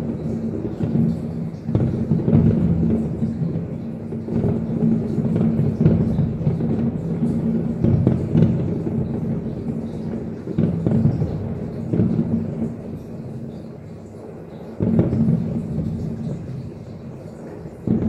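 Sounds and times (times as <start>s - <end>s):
fireworks booms and bangs: 0.0s - 18.0s.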